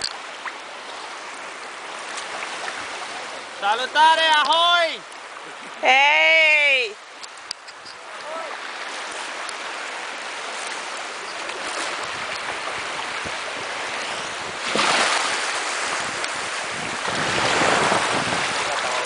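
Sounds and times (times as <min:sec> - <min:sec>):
boat wake splashing: 0:00.0 - 0:19.0.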